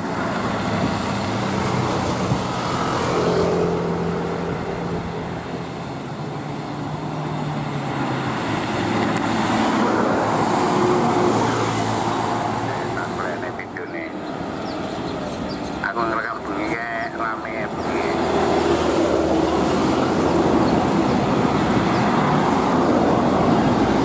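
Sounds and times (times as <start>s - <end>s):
cars passing: 0.0s - 24.0s
diesel truck driving past: 0.0s - 24.0s
motorbikes passing: 0.0s - 24.0s.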